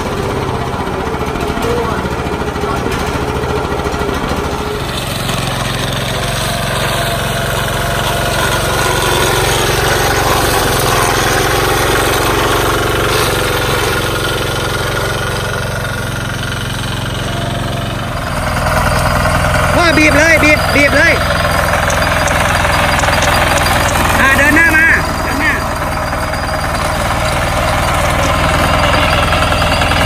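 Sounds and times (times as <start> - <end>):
small petrol engine running: 0.0 - 30.0.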